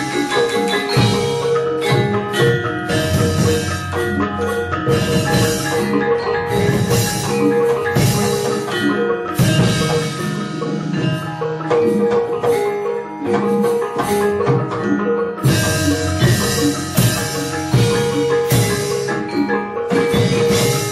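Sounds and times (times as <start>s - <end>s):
metallophones and gongs ringing: 0.0s - 20.9s
sharp percussive strikes: 0.0s - 20.9s.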